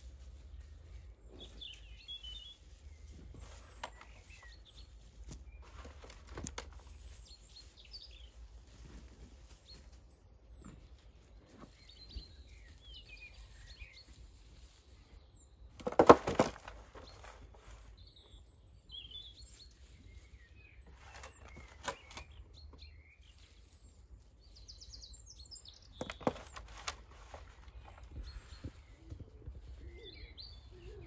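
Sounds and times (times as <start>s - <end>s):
birds chirping and singing: 0.0s - 31.0s
gloved hands rustling soil: 0.0s - 31.0s.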